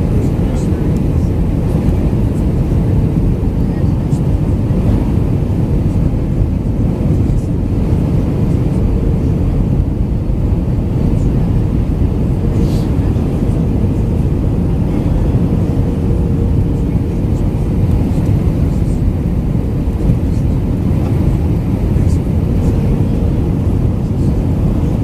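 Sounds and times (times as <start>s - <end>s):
airplane cabin rumble: 0.0s - 25.0s
steady hum: 0.0s - 25.0s.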